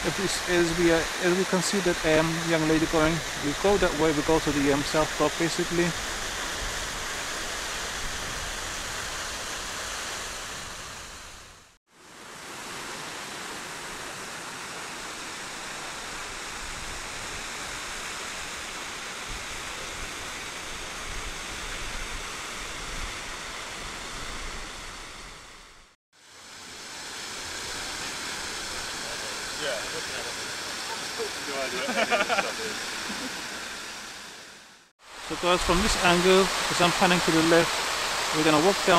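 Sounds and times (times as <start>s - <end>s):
fountain water rushing and splashing: 0.0s - 11.4s, 12.0s - 25.5s, 26.2s - 38.9s.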